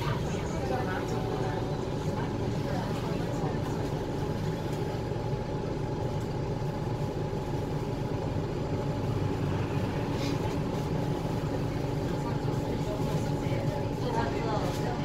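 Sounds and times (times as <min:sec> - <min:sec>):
bus engine hum: 0:00.0 - 0:15.0.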